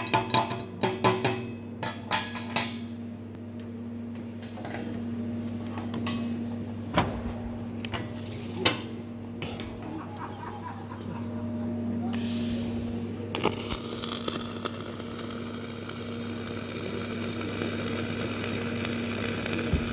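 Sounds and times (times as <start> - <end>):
low electrical hum: 0.0 - 19.9.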